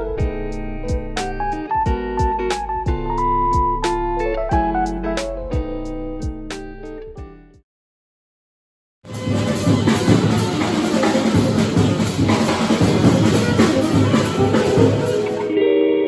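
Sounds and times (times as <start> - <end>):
music with drum kit: 0.0 - 7.6, 9.1 - 15.6.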